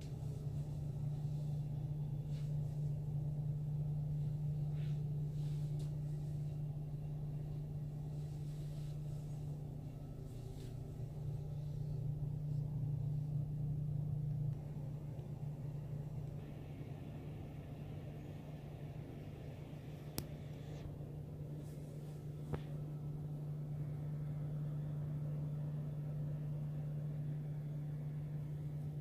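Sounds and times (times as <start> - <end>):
low machinery hum: 0.0 - 29.0.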